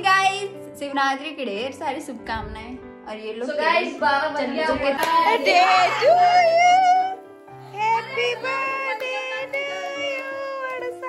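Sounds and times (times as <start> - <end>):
instrumental backing: 1.8 - 11.0.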